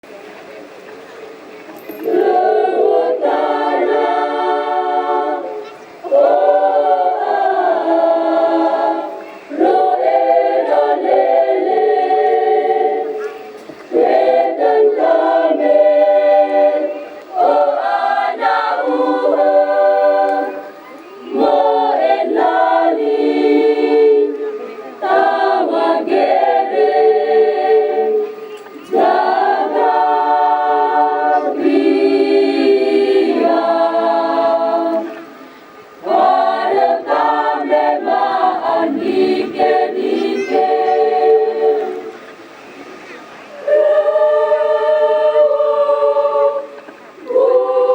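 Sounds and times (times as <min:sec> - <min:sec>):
choir singing a cappella: 0:02.0 - 0:47.9.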